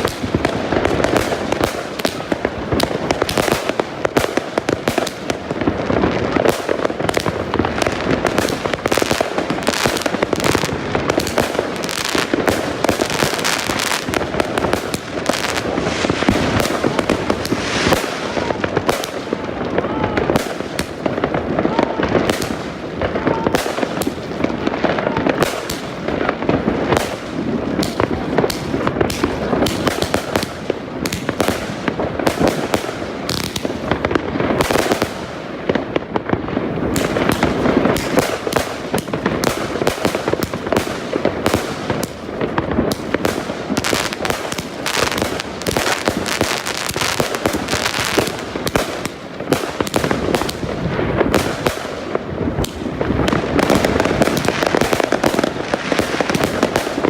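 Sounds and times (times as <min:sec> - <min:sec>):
firework cake barrage cracks: 0:00.0 - 0:57.0.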